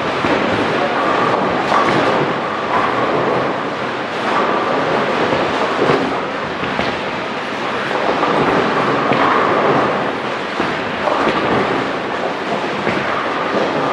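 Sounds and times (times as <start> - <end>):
bowling balls rolling: 0.0 - 13.9
bowling pins crashing: 0.0 - 13.9.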